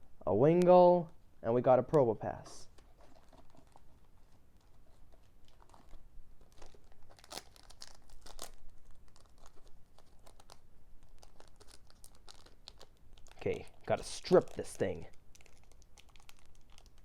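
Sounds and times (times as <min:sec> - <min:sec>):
foil wrapper crinkling: 0:02.6 - 0:17.0.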